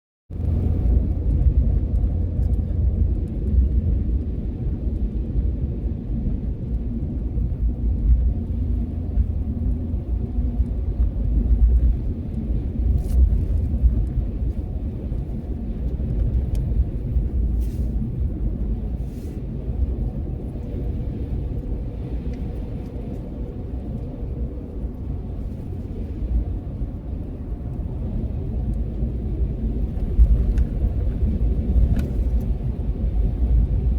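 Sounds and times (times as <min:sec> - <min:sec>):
low rumble: 0:00.3 - 0:33.9.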